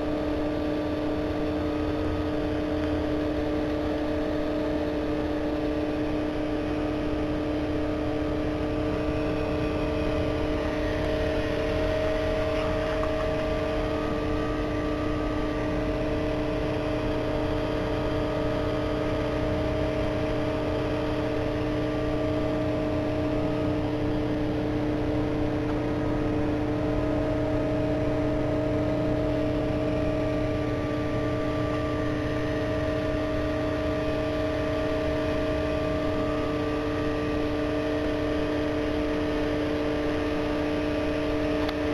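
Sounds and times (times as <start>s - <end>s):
aquarium equipment humming: 0.0s - 41.9s.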